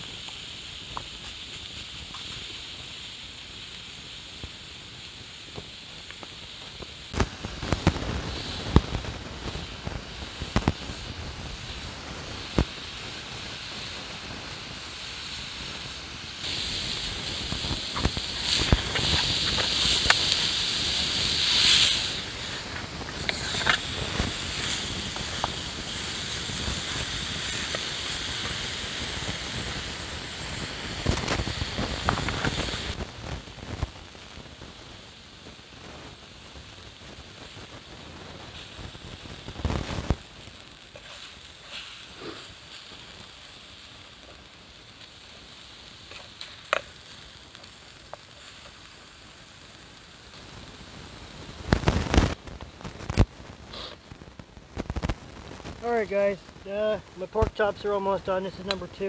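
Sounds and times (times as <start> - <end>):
meat sizzling in a pan: 0.0 - 54.2
campfire crackling and popping: 0.0 - 59.0.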